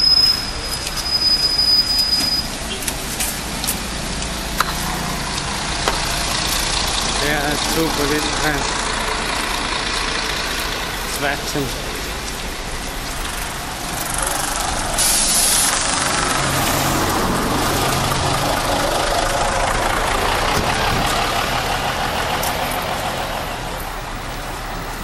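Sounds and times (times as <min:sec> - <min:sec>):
heavy vehicle engine passing: 0:00.0 - 0:25.0
road traffic: 0:00.0 - 0:25.0.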